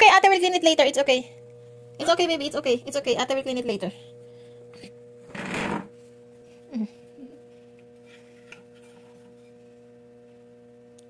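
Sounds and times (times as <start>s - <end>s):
low hum of held tones: 0.0s - 11.0s.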